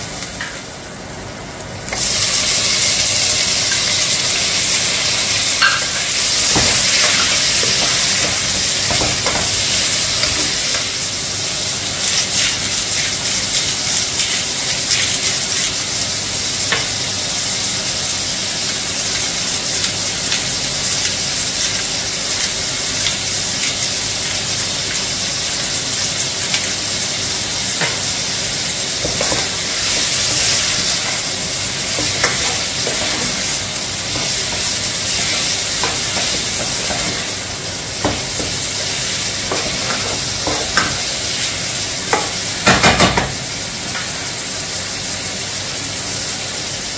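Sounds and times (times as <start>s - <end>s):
meat sizzling in a pot: 0.0s - 46.9s.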